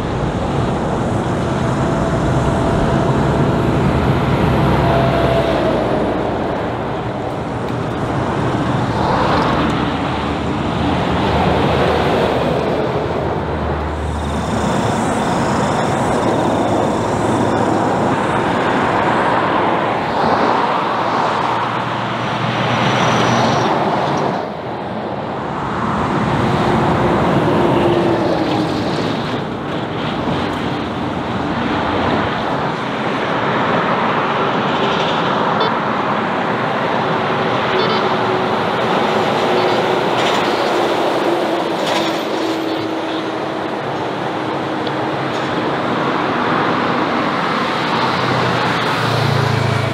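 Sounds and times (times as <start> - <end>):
trucks passing on highway: 0.0 - 49.9.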